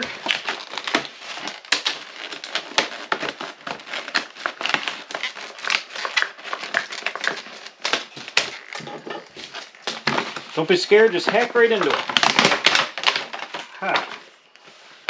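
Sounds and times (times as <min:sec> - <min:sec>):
plastic packaging crackling and snapping: 0:00.0 - 0:14.9.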